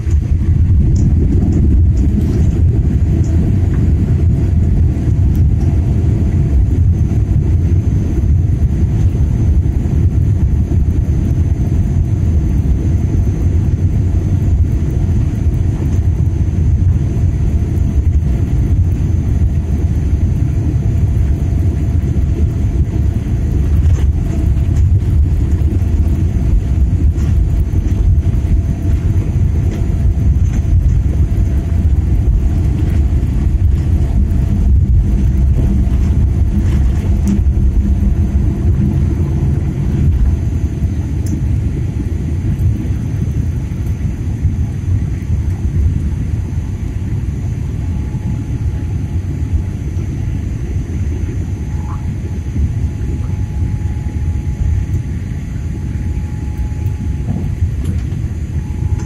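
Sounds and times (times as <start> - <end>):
engine and wheel rumble: 0.0 - 59.0
faint steady hum: 0.0 - 59.0.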